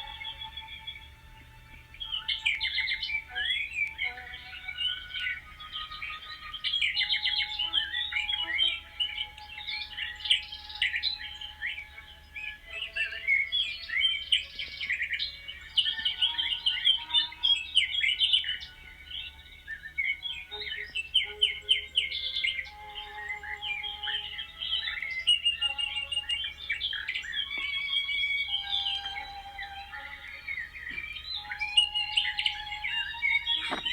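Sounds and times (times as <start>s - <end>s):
songbirds chirping and twittering: 0.0s - 33.9s.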